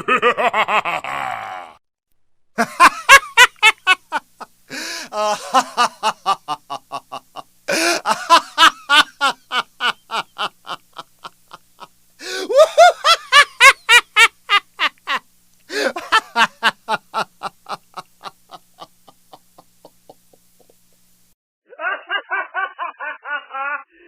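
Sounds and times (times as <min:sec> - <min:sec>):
person laughing hard: 0:00.0 - 0:01.8, 0:02.6 - 0:20.9, 0:21.7 - 0:24.0.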